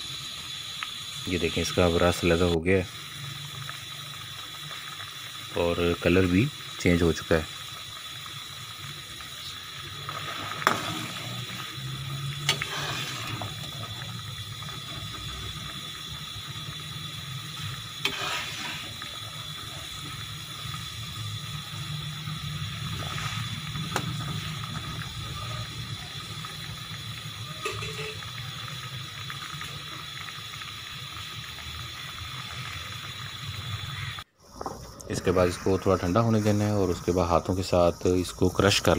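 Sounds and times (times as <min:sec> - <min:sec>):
water simmering in a pan: 0:00.0 - 0:38.9.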